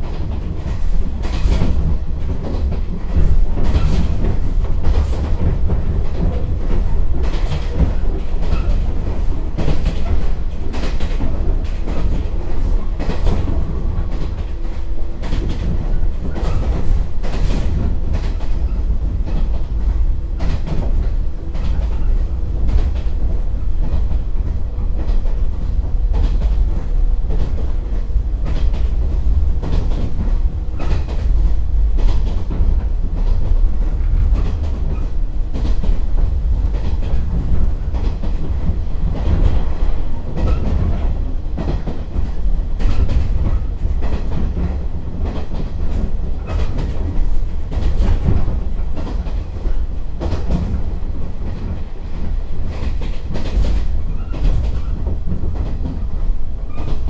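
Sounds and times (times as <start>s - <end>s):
train interior low rumble: 0.0s - 57.0s.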